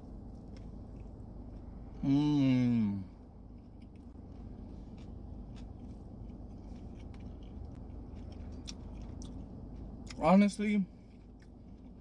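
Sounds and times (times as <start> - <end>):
low hum: 0.0 - 12.0
person chewing: 0.3 - 10.2, 10.9 - 12.0.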